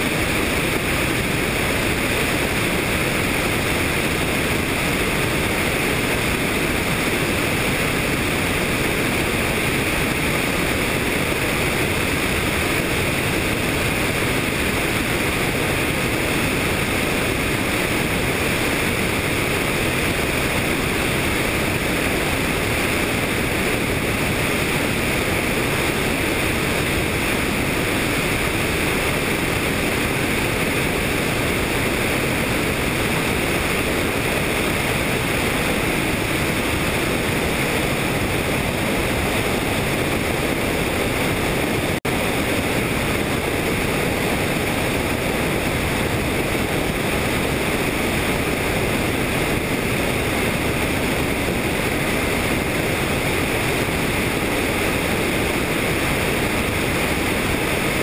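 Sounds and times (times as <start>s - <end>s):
helicopter rotor and engine noise: 0.0s - 58.0s
wind over microphone: 0.0s - 58.0s.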